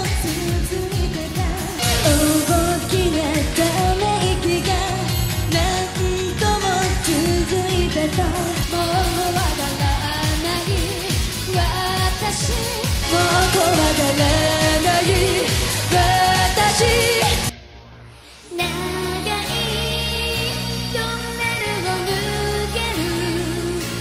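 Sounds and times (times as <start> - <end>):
pop band playing: 0.0 - 17.5, 18.5 - 24.0
woman singing into microphone: 0.0 - 17.5, 18.5 - 24.0.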